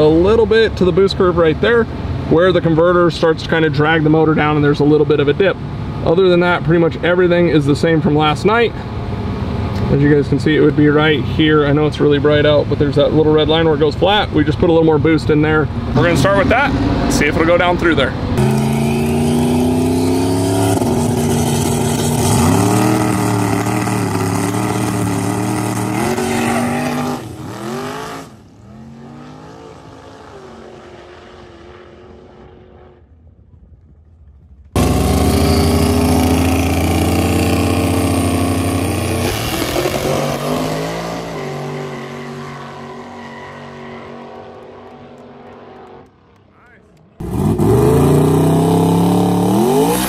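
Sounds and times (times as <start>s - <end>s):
drag car engines at full throttle: 0.0s - 50.0s.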